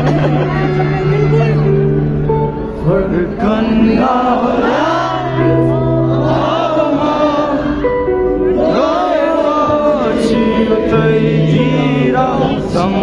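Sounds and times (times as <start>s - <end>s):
live band music: 0.0s - 13.0s
person singing: 2.5s - 13.0s.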